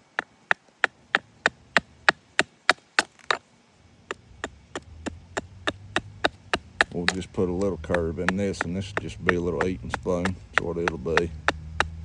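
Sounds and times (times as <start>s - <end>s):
hatchet chopping wood: 0.0s - 3.4s, 4.1s - 12.0s.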